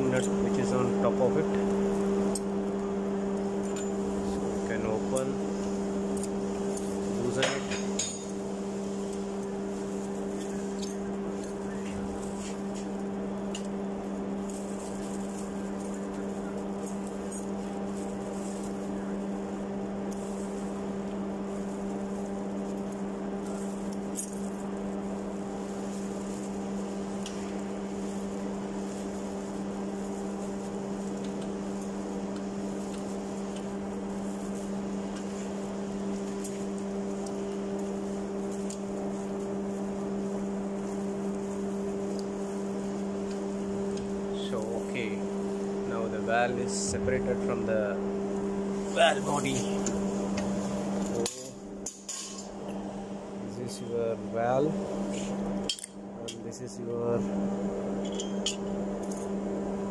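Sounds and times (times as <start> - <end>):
machinery hum: 0.0 - 59.9.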